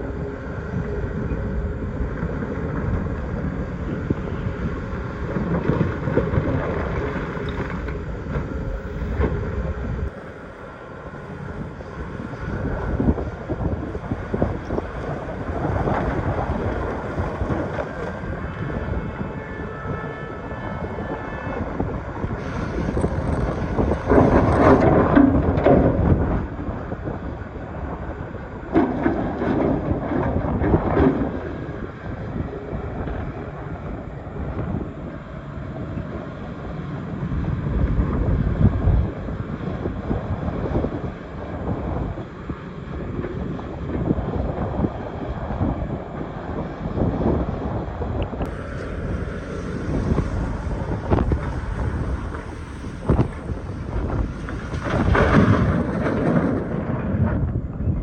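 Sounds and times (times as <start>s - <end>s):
excavator diesel engine straining: 0.0s - 58.0s.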